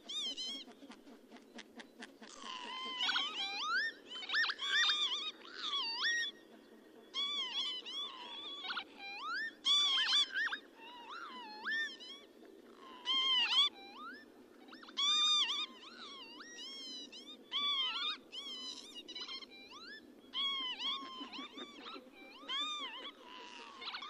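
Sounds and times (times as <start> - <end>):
faint background hiss: 0.0 - 24.0
lapwings calling: 0.0 - 24.0.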